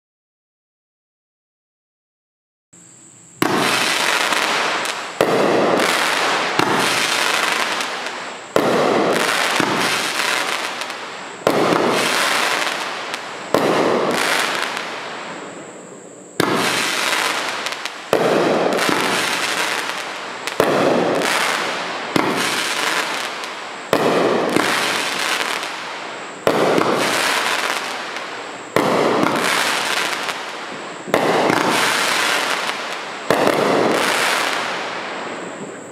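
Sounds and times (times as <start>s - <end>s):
firework shots firing: 3.4s - 15.4s, 16.4s - 35.7s
firework crackle: 3.4s - 35.9s.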